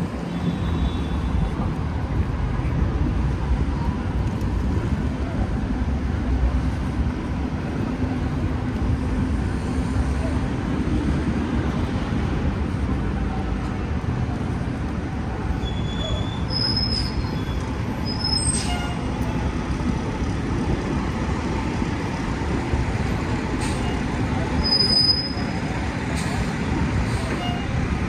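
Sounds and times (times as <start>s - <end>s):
street traffic rumbling: 0.0s - 28.0s.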